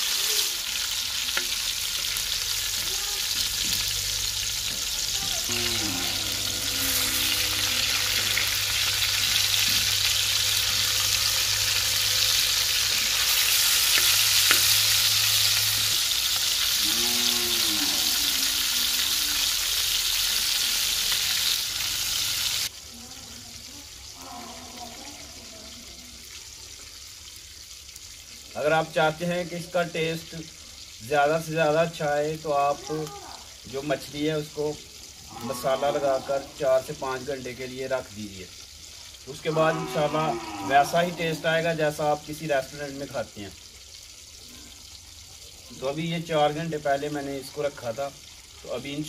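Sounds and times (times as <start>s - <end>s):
fish sizzling in hot oil: 0.0s - 49.0s.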